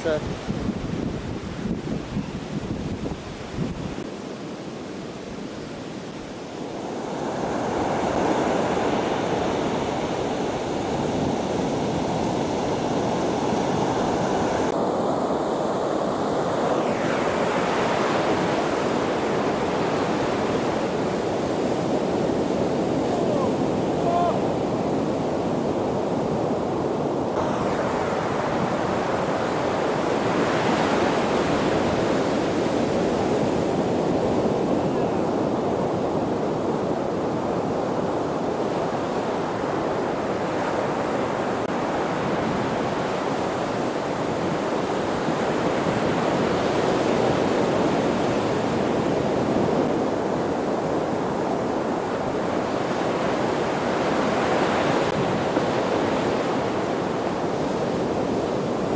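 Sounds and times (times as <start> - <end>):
waves breaking on a beach: 0.0 - 58.9.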